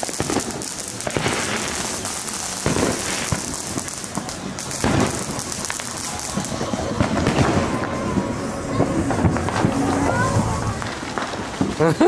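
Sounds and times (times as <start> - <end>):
fireworks crackling pops: 0.0 - 12.0
heavy firework booms: 0.0 - 12.0.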